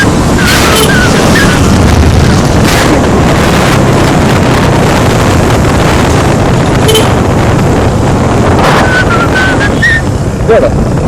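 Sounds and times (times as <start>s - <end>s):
motorcycle engine and road noise: 0.0s - 11.0s
wind buffeting microphone: 0.0s - 11.0s.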